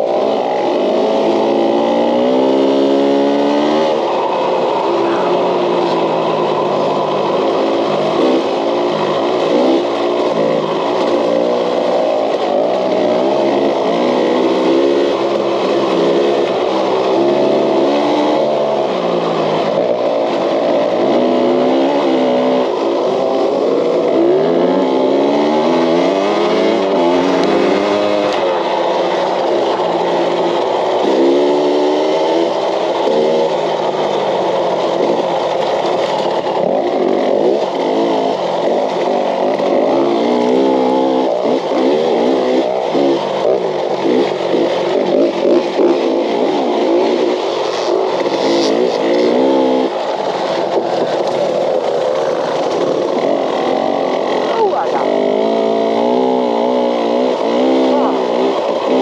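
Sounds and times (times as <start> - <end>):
dirt bike engine revving: 0.0 - 59.0
rush of riding over track: 0.0 - 59.0.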